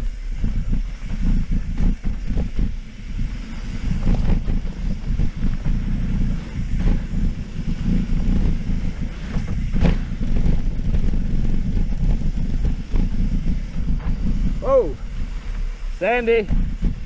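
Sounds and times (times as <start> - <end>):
bike rattling over rough ground: 0.0 - 17.0
wind buffeting microphone: 0.0 - 17.0.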